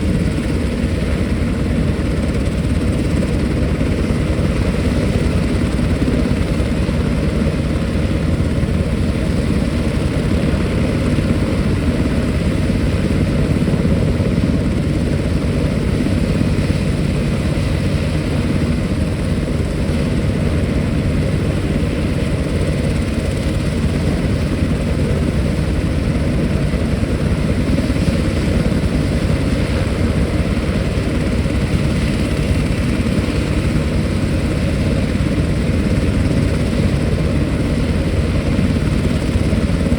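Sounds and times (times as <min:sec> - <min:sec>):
helicopter rotor and engines: 0:00.0 - 0:39.9.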